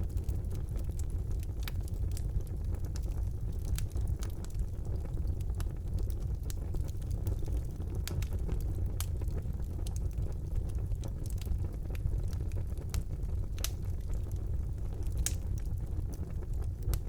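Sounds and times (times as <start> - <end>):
fire crackling and popping: 0.0 - 17.0
fire flame rushing: 0.0 - 17.0.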